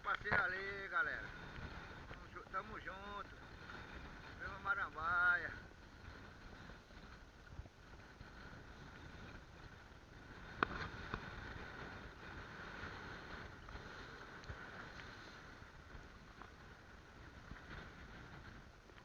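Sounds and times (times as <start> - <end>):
boat motor droning: 0.0 - 19.0
constant hiss: 0.0 - 19.0.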